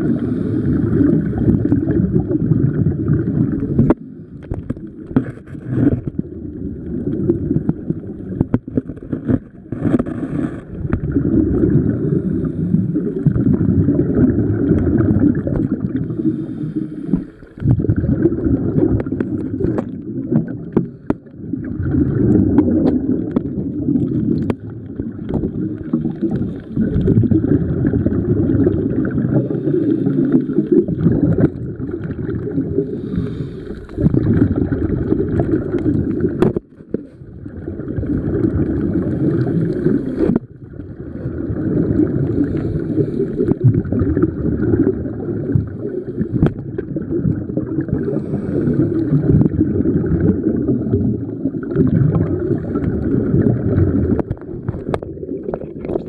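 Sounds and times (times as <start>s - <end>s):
underwater water gurgling: 0.0s - 56.0s.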